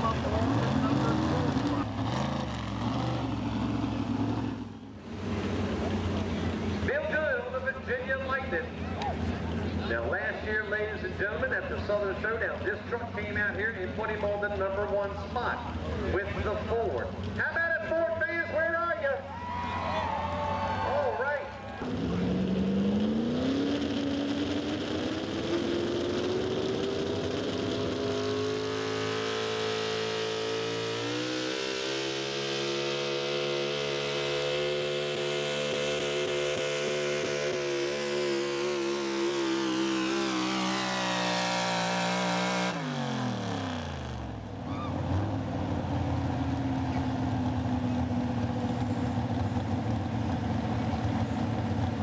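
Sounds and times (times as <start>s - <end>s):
truck engine revving: 0.0s - 19.2s, 21.6s - 52.0s.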